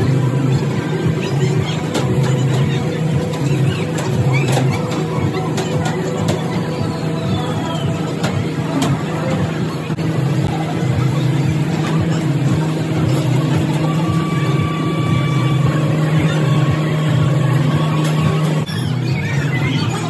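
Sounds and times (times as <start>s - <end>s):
low machine-like drone: 0.0s - 20.0s.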